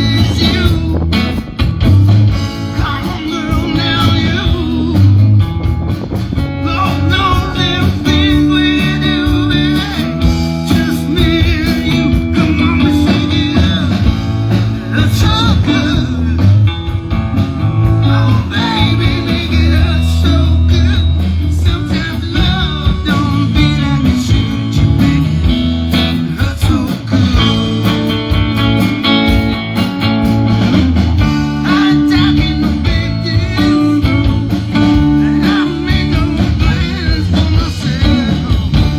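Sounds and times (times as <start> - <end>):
blues-rock band playing: 0.0 - 38.9
electric guitar: 0.0 - 38.9.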